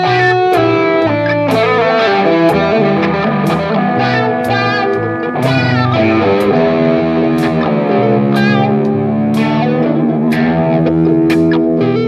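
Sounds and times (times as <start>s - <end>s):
beat with sharp hits: 0.0s - 12.0s
distorted electric guitar: 0.0s - 12.0s.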